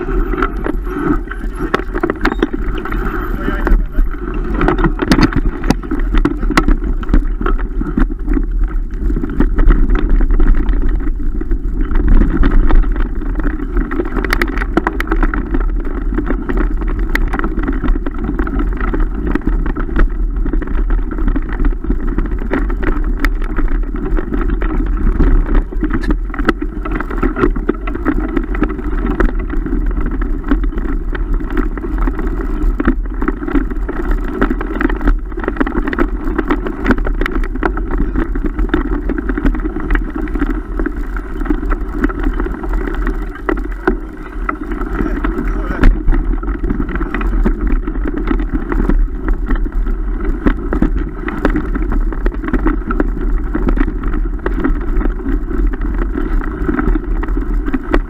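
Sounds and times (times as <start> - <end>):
bike knocks and rattles: 0.0 - 58.0
wind and tyre rumble: 0.0 - 58.0.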